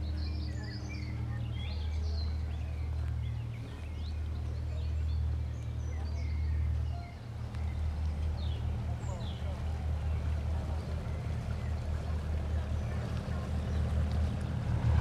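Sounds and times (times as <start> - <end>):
songbirds singing: 0.0 - 14.9
steady low rumble: 0.0 - 15.0.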